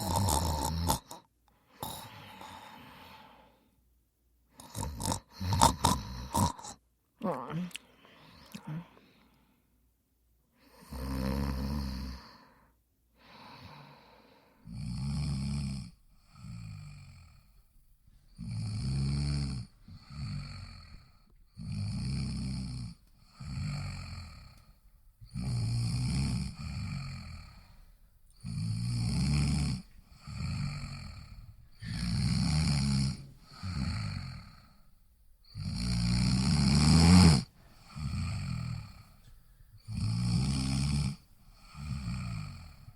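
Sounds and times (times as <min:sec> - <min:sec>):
snoring: 0:00.0 - 0:03.4, 0:04.5 - 0:06.8, 0:10.6 - 0:12.6, 0:13.4 - 0:17.7, 0:18.3 - 0:42.9.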